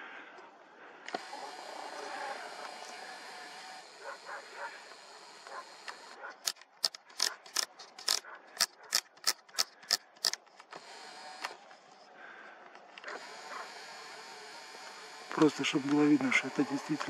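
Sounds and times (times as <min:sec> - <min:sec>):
camera dial clicks: 0:01.0 - 0:03.9, 0:04.8 - 0:11.8, 0:12.7 - 0:17.0.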